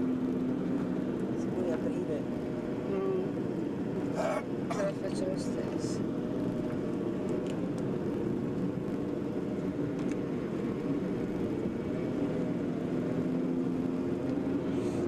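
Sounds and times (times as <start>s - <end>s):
engine and road noise in vehicle: 0.0s - 15.0s.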